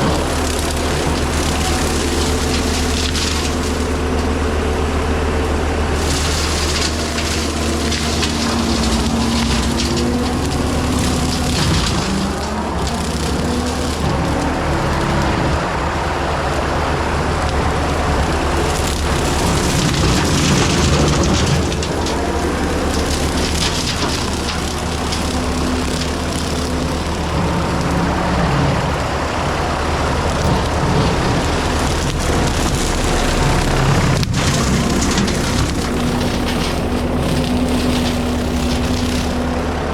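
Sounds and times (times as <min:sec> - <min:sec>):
brush cutter shredding brush: 0:00.0 - 0:39.9
diesel engine drone: 0:00.0 - 0:39.9.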